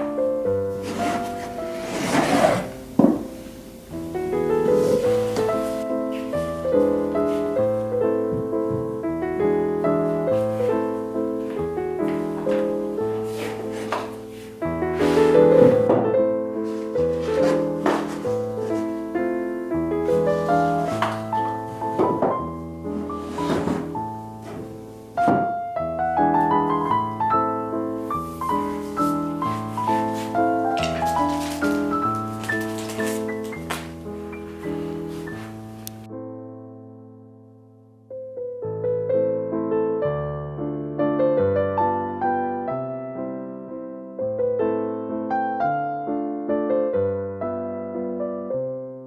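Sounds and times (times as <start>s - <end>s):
calm piano music: 0.0s - 49.0s.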